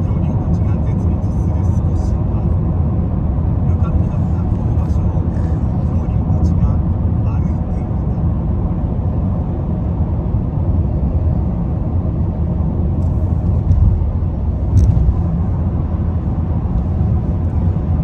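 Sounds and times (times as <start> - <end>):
road and tyre rumble inside car: 0.0 - 18.0.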